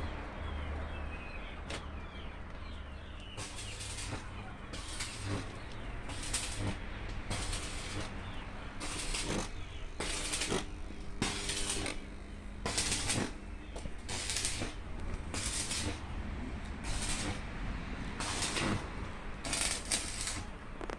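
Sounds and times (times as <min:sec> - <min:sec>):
steady low hum: 0:02.1 - 0:20.9
rhythmic scraping strokes: 0:03.4 - 0:20.9.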